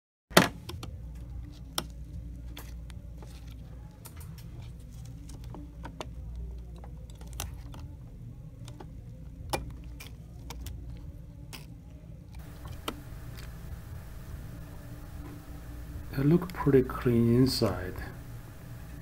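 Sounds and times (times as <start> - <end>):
steady low hum: 0.8 - 19.0.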